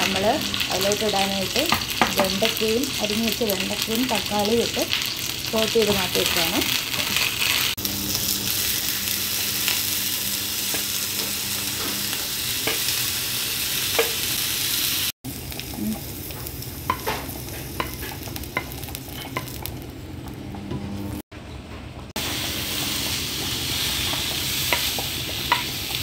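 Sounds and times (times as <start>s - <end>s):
vegetables sizzling in hot oil: 0.0s - 20.0s, 22.2s - 26.0s.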